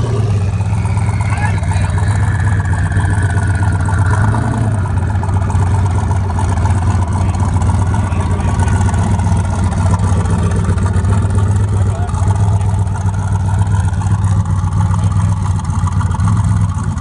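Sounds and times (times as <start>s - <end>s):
engine idling with low rumble: 0.0s - 17.0s.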